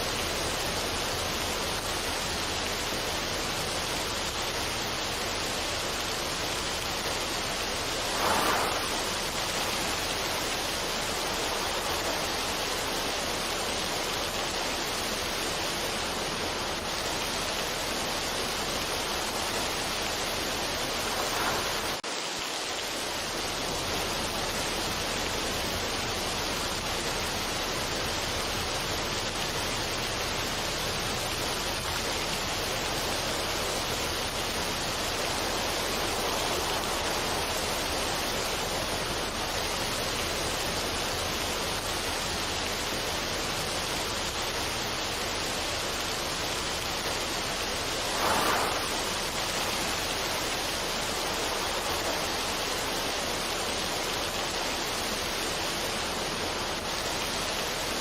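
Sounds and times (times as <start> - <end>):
steady rushing noise: 0.0 - 28.9, 29.6 - 58.0.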